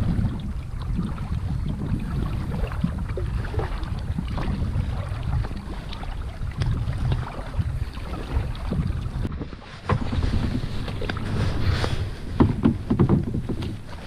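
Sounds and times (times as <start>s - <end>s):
water splashing against kayak: 0.0s - 14.0s
wind buffeting microphone: 0.0s - 14.0s.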